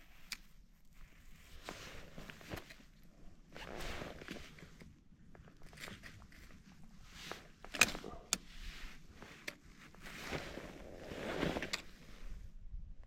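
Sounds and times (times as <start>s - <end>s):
crunching and scraping on snowy ice: 0.9s - 12.4s.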